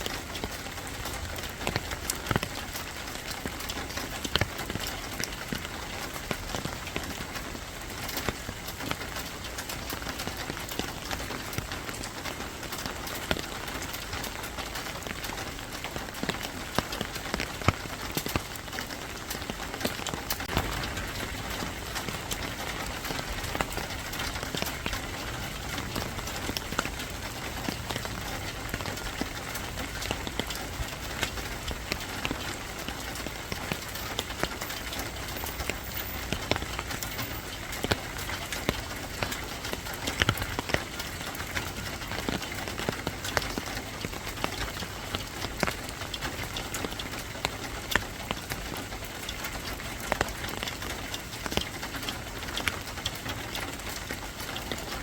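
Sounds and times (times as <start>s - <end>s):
rain falling: 0.0s - 55.0s
raindrops tapping on a surface: 0.0s - 55.0s.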